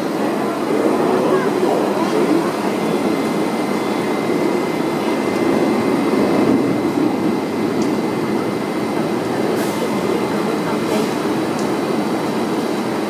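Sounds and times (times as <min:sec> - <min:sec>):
train ventilation hum: 0:00.0 - 0:13.0.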